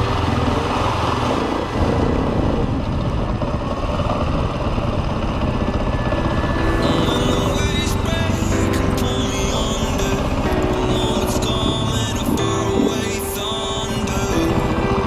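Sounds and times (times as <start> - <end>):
motorcycle engine under load: 0.0 - 15.0
rough riding noise: 0.0 - 15.0.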